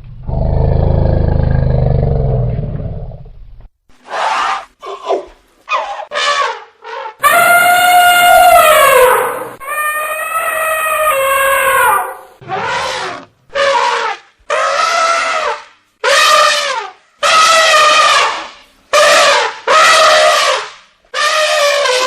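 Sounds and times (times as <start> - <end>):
elephant trumpeting: 4.0 - 22.0.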